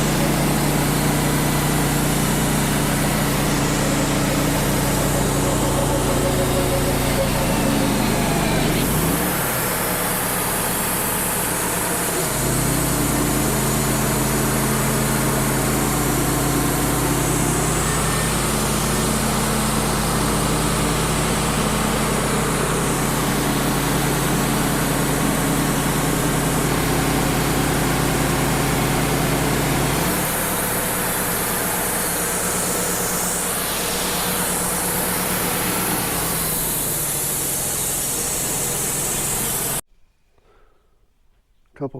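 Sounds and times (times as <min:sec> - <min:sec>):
sawmill engine running: 0:00.0 - 0:39.8.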